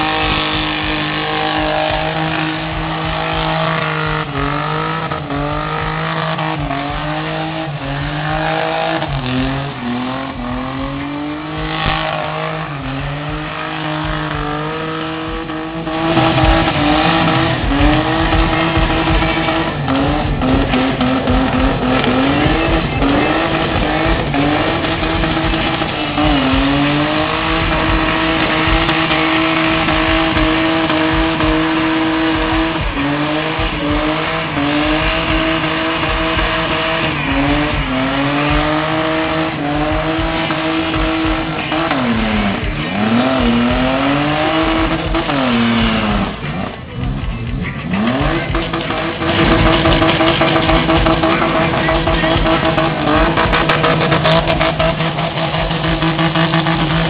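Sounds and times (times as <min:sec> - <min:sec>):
car engine revving high: 0:00.0 - 0:57.0.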